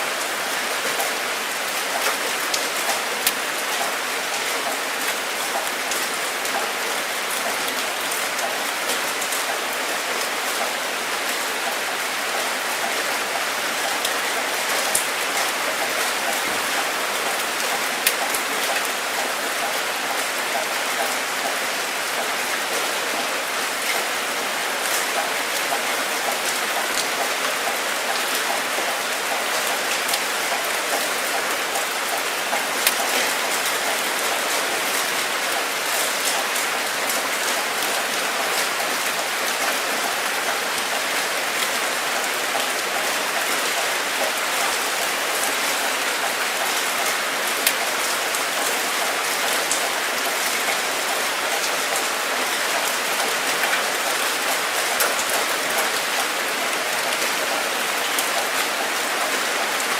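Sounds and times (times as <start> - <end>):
rain falling: 0.0 - 59.9
rain drops ticking: 0.1 - 59.9.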